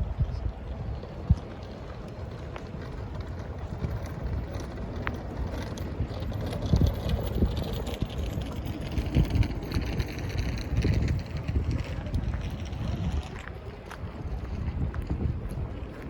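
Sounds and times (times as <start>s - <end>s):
city traffic rumble: 0.0s - 16.0s
wind buffeting microphone: 0.0s - 16.0s.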